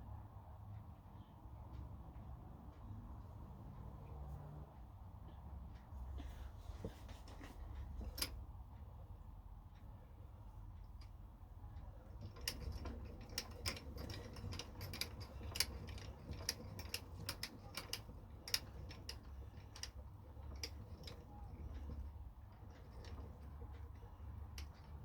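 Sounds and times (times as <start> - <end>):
low steady hum: 0.0 - 25.0
light clicks and taps: 0.7 - 8.9, 10.6 - 25.0.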